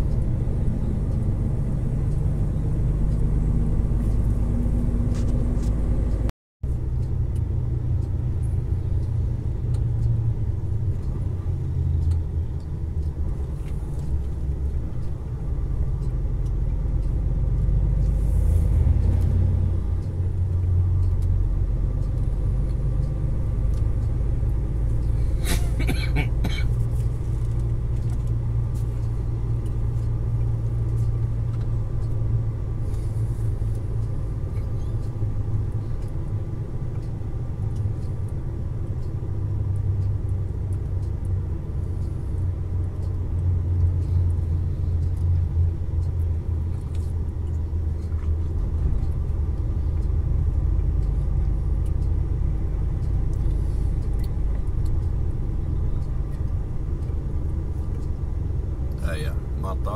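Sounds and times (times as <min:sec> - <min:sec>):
truck engine drone: 0:00.0 - 0:59.9.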